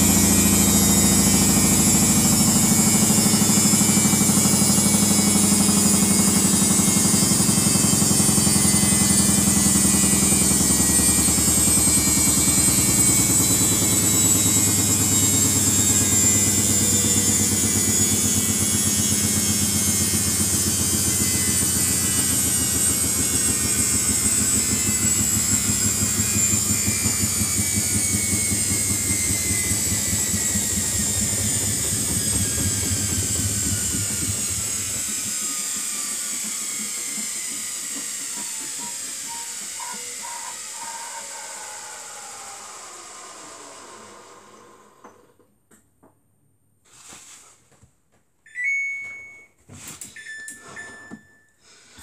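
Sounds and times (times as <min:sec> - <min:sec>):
washing machine motor whine: 0:00.0 - 0:45.4.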